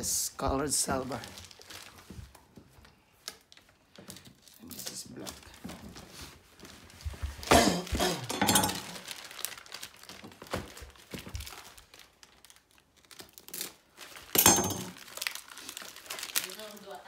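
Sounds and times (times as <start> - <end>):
packaging crinkling and rustling: 0.3 - 17.0.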